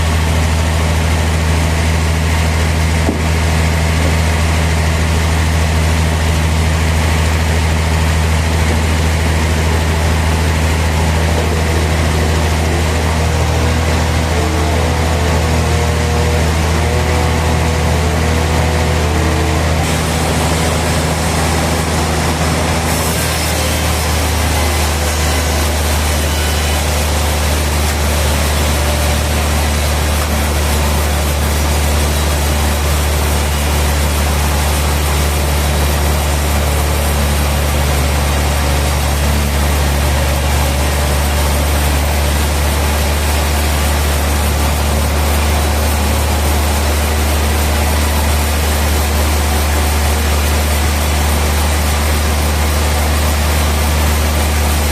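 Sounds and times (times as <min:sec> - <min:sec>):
sawmill machinery humming: 0:00.0 - 0:54.9.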